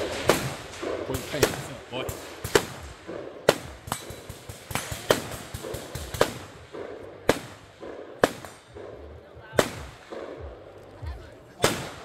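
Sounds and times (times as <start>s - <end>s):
gunshots with echo: 0.0s - 12.0s.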